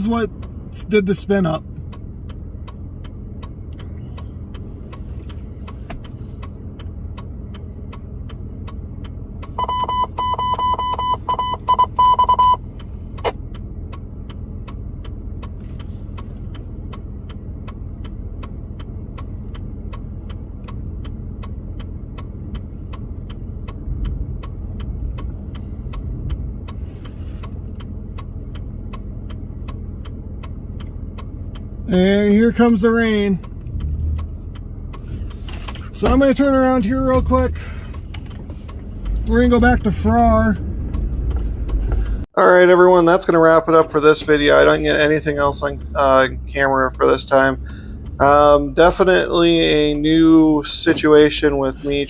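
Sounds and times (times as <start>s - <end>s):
car cabin rumble: 0.0s - 52.0s.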